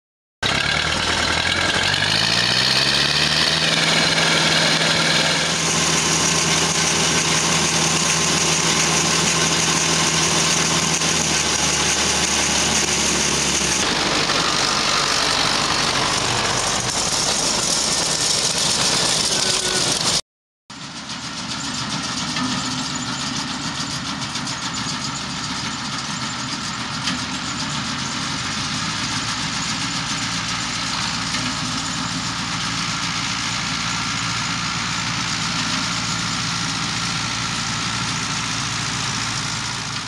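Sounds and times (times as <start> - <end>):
distant tractor engines running: 0.4 - 40.0.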